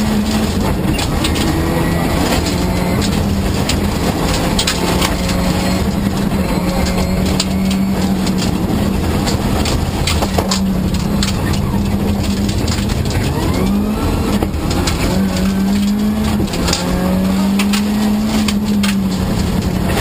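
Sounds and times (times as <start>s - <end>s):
car engine running high pitch: 0.0s - 20.0s
gravel rattling against underbody: 0.0s - 20.0s.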